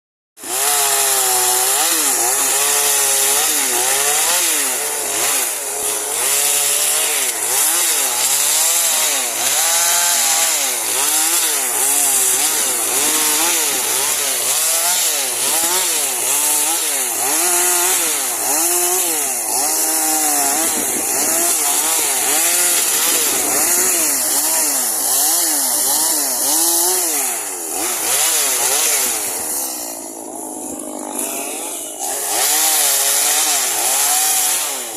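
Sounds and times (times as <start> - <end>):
chainsaw cutting wood: 0.4 - 34.9.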